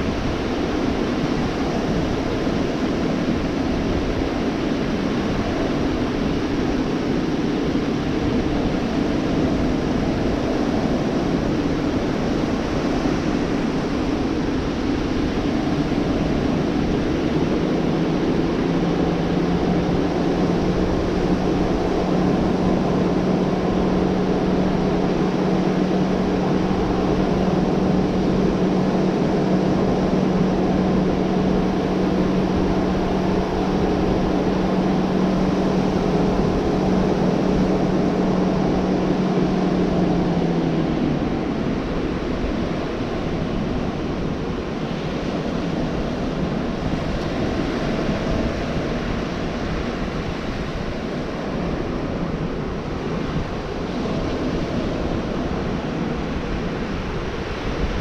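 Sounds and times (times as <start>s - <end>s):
low mechanical hum: 0.0s - 58.0s
ocean surf washing onto beach: 0.0s - 58.0s.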